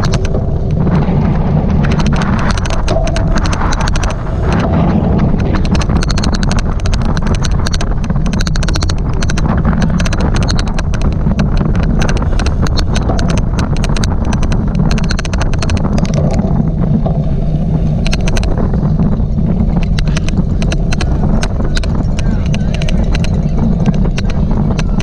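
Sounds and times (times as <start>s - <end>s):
low rumble of bike riding: 0.0s - 25.0s
rapid sharp clicks: 0.0s - 25.0s.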